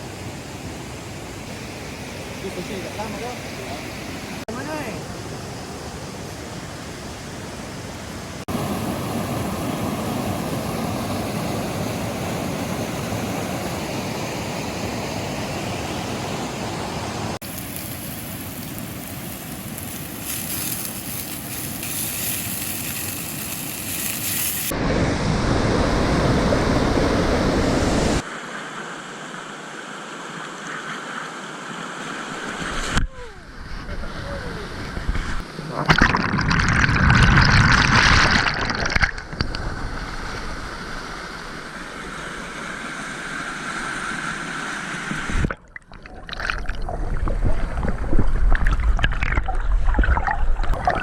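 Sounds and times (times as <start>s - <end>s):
rushing river water: 0.0s - 24.8s, 26.5s - 51.0s.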